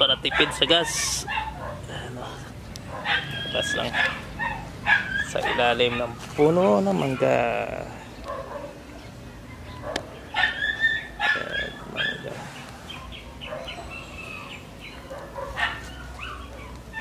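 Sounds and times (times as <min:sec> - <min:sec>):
animals calling: 0:00.0 - 0:17.0.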